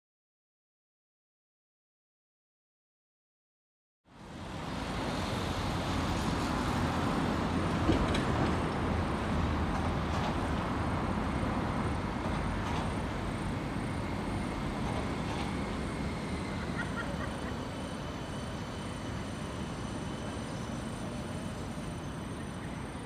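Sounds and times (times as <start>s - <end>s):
city traffic noise: 4.1s - 23.0s.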